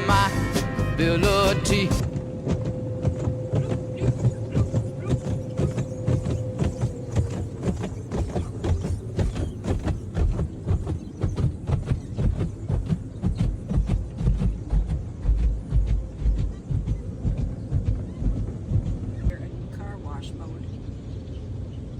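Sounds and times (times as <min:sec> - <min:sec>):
car wash brushes and water drumming: 0:00.0 - 0:20.2
low rumble: 0:00.0 - 0:21.9.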